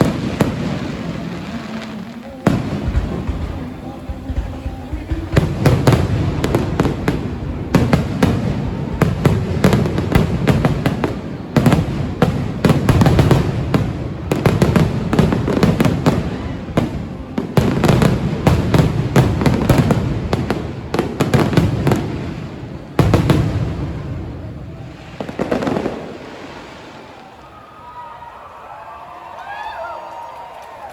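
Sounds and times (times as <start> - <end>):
fireworks booming and cracking: 0.0 - 27.4.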